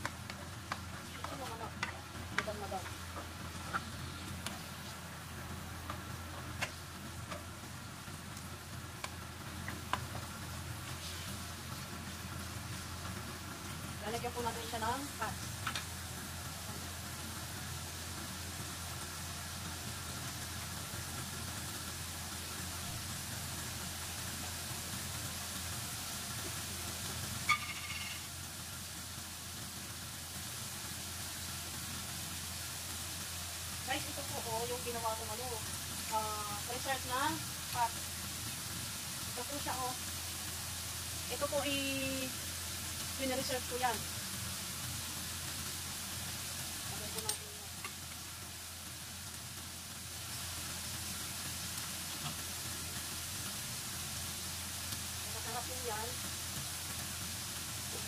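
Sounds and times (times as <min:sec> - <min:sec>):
constant hum: 0:00.0 - 0:58.0
meat frying faintly: 0:00.0 - 0:58.0.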